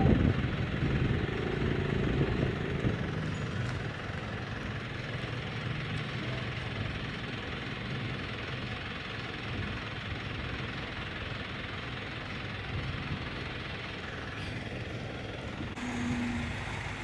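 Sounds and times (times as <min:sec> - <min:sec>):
roadworks machinery engines humming: 0:00.0 - 0:17.0.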